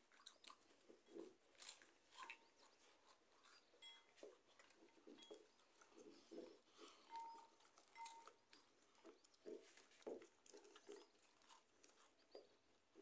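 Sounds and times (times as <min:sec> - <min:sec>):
crunching and chewing crackers: 0:00.0 - 0:13.0.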